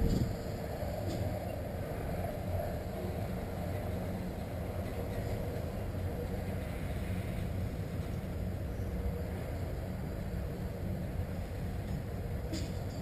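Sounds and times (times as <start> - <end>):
train rumbling in motion: 0.0 - 13.0.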